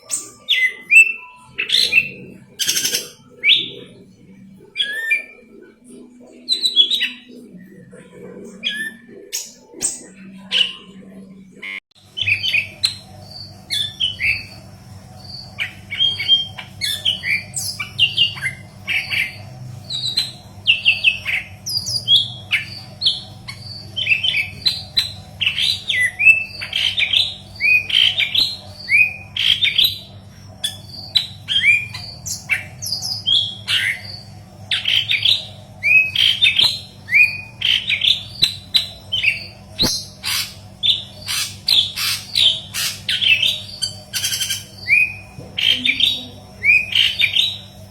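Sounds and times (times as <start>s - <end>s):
bird singing chirps and whistles: 0.0s - 3.9s, 4.6s - 7.4s, 15.2s - 47.9s
low steady hum: 0.0s - 47.9s.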